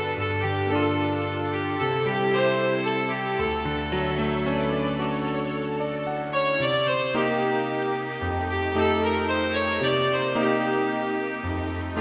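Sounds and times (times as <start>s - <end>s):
slow keyboard chords: 0.0s - 12.0s.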